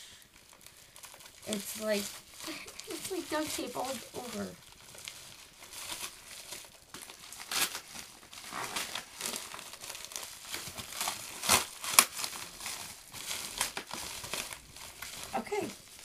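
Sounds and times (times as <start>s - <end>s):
package crinkling: 0.2s - 16.0s
package tape ripping: 0.5s - 16.0s.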